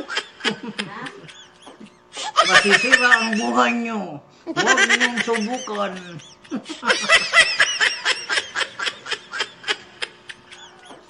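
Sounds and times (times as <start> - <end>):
man giggling: 0.0 - 3.7, 4.5 - 11.0.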